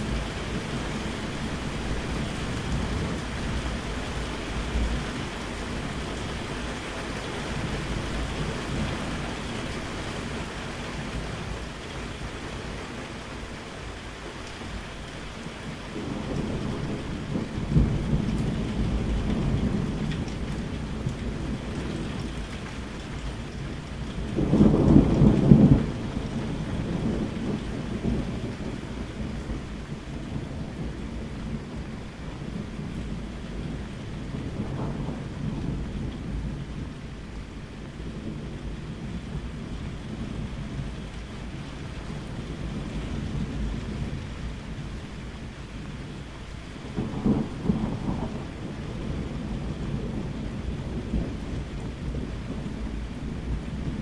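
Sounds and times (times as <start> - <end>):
rain hissing: 0.0 - 54.0
thunder rumbling: 0.0 - 54.0.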